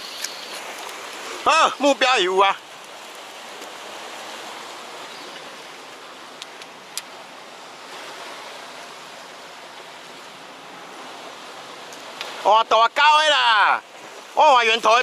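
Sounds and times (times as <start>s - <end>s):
sea surf on rocky shore: 0.0s - 15.0s.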